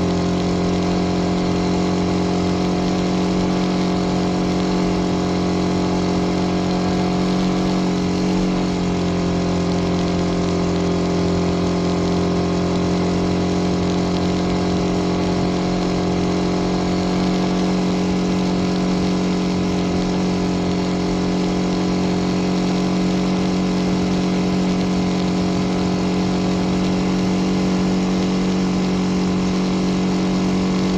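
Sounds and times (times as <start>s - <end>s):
car engine droning: 0.0s - 30.9s.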